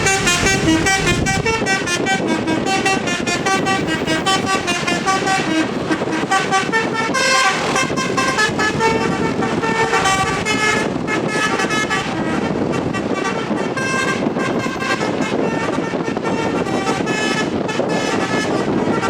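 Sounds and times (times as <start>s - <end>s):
bus multi-trumpet air horn tune: 0.0s - 19.0s
engine and traffic noise: 0.0s - 19.0s.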